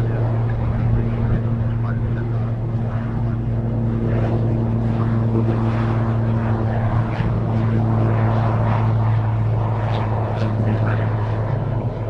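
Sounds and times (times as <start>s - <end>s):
turboprop engine drone: 0.0s - 12.0s.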